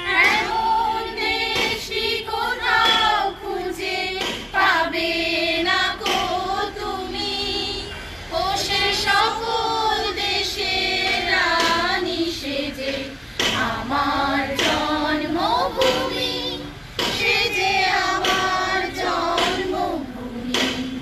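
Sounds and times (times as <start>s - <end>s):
women singing in unison: 0.0s - 21.0s.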